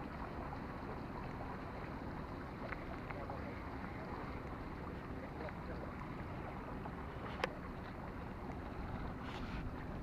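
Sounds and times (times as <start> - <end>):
water noise: 0.0 - 10.0
wind: 0.0 - 10.0.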